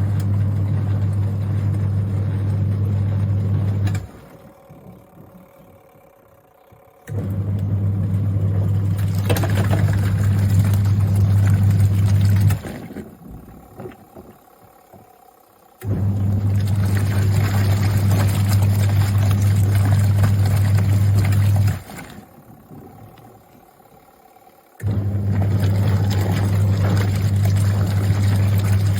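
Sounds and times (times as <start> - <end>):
washing machine motor humming: 0.0 - 28.9.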